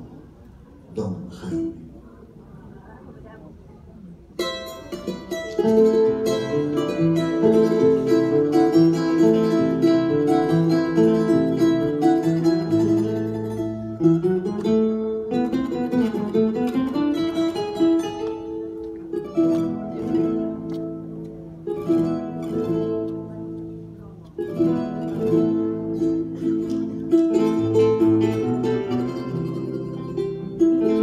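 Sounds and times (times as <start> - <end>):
classical guitar accompaniment: 0.0 - 31.0
charango melody: 4.4 - 31.0.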